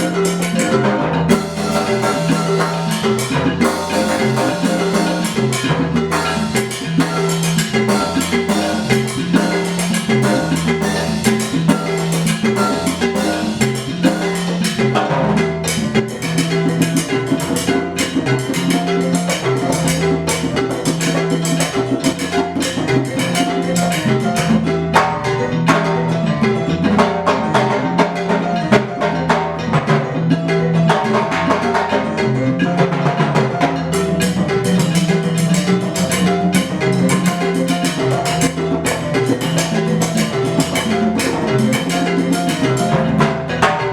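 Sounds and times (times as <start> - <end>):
drums and hand percussion: 0.0 - 43.9.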